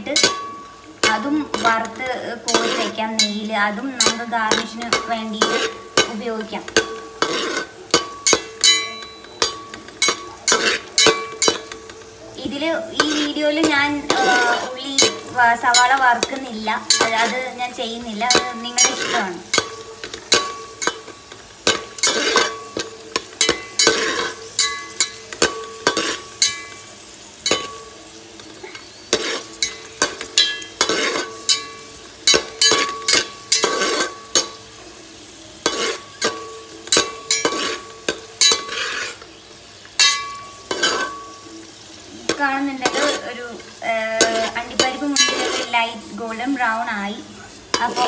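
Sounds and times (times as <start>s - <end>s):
hot oil sizzling: 0.0s - 48.0s
metal spatula scraping a pot: 0.0s - 48.0s
pot ringing: 0.0s - 48.0s.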